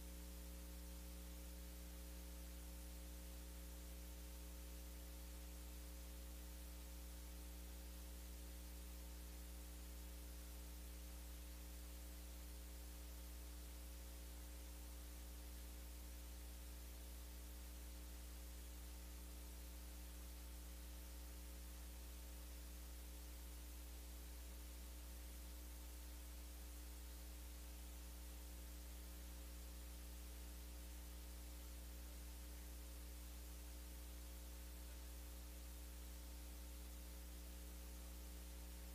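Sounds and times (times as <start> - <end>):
electrical mains hum: 0.0 - 38.9
faint hiss: 0.0 - 38.9.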